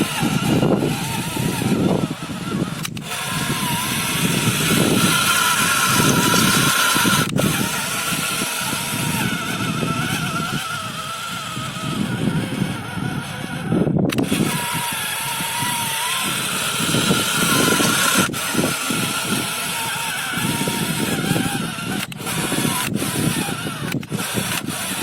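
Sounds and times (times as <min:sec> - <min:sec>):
gearbox whine: 0:00.0 - 0:25.0
tractor engine rumble: 0:00.0 - 0:25.0.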